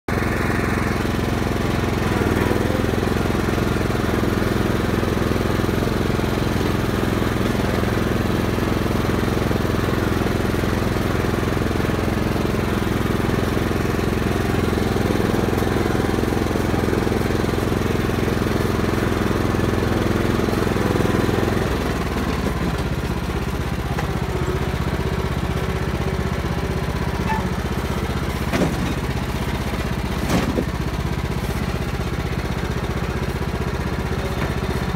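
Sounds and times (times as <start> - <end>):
lawn tractor engine running: 0.1 - 34.9.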